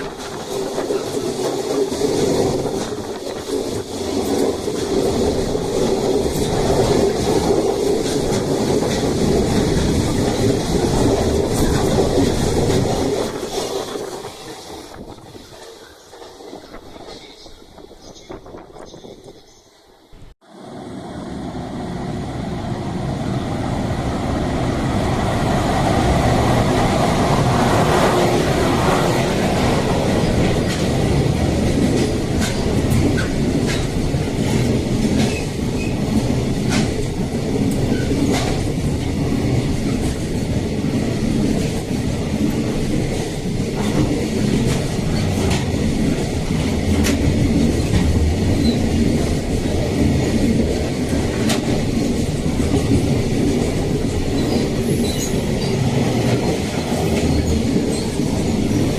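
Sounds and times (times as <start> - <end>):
train wheels clacking on rail joints: 0.0 - 19.4, 26.4 - 58.9
freight train rumbling past: 0.0 - 58.9.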